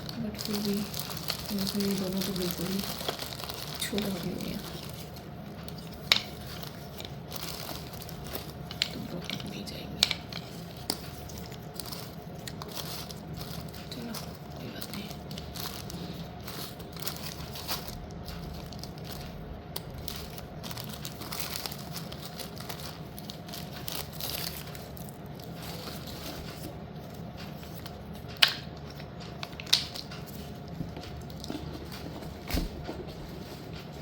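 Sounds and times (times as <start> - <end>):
packaging rustling and crinkling: 0.0 - 34.0.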